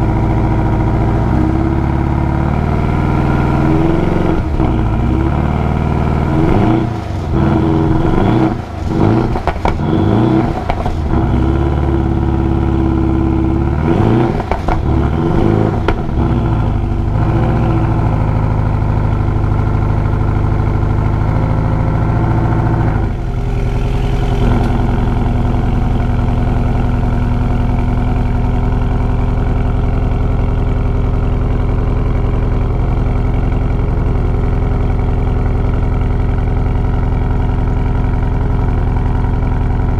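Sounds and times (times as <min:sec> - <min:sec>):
car engine revving: 0:00.0 - 0:35.3.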